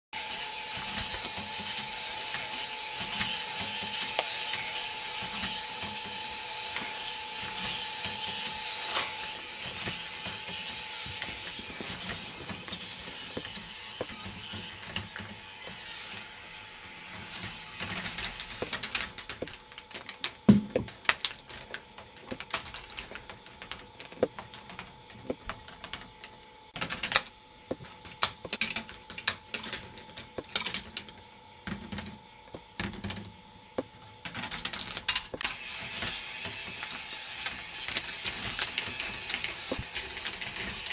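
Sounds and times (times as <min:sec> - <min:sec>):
motor whirring and ratcheting: 0:00.2 - 0:33.3, 0:34.3 - 0:40.9
balls clacking on plastic tracks: 0:00.8 - 0:08.6, 0:09.4 - 0:40.9.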